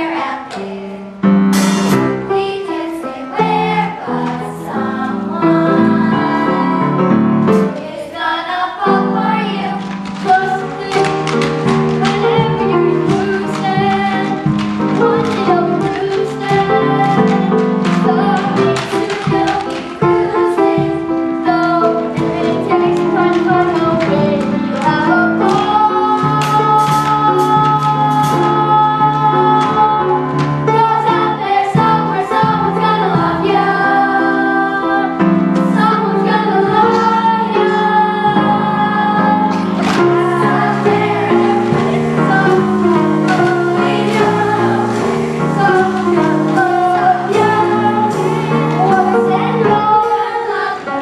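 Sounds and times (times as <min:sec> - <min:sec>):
instrumental accompaniment: 0:00.0 - 0:51.0
voices singing: 0:01.8 - 0:51.0.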